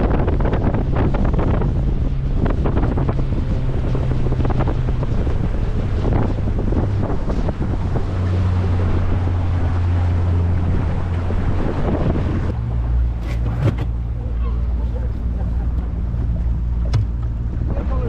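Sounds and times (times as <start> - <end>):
boat motor running: 0.0 - 18.0
water rushing along hull: 0.0 - 18.0
wind buffeting microphone: 0.0 - 18.0.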